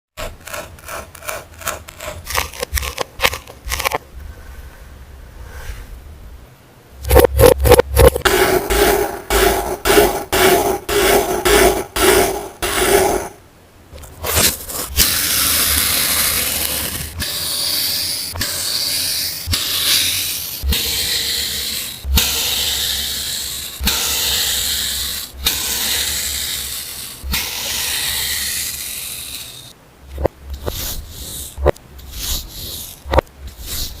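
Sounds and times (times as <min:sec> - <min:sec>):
kinetic sand being cut: 0:00.2 - 0:04.0, 0:07.1 - 0:13.4, 0:14.2 - 0:34.0.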